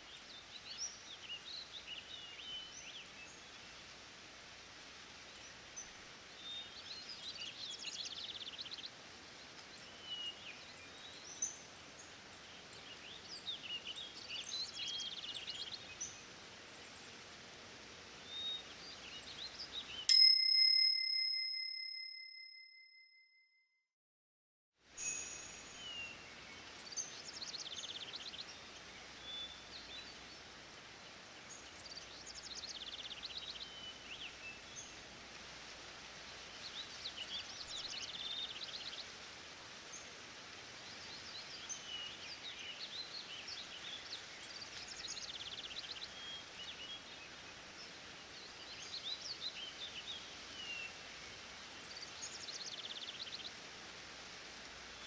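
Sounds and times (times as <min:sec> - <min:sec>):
steady background hiss: 0:00.0 - 0:20.2, 0:25.0 - 0:55.0.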